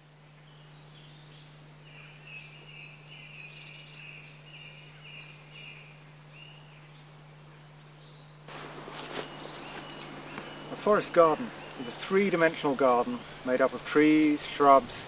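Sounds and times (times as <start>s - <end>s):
songbird singing: 0.0s - 15.0s
steady low hum: 0.0s - 15.0s.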